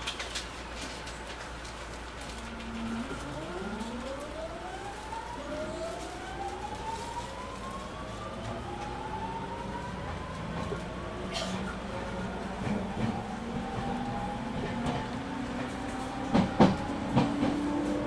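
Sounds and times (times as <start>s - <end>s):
low hum of motors and wheels: 0.0s - 18.0s
train inverter whining: 0.7s - 18.0s.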